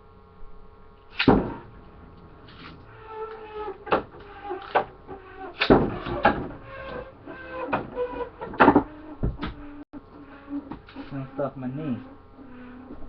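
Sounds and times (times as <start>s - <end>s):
spinning tops whirring: 1.1s - 13.0s.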